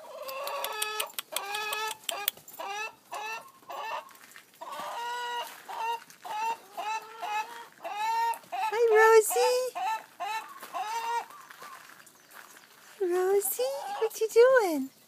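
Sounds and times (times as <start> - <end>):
hen clucking: 0.0 - 14.8.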